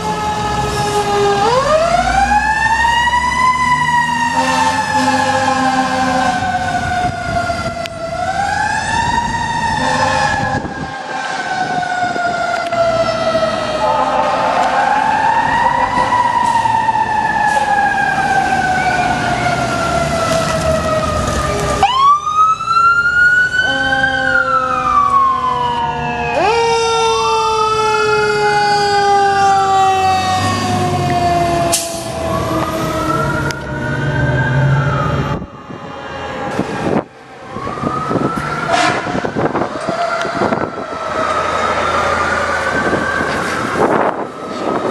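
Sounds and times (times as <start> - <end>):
sirens wailing: 0.0 - 44.9
truck engine rumble: 0.0 - 44.9.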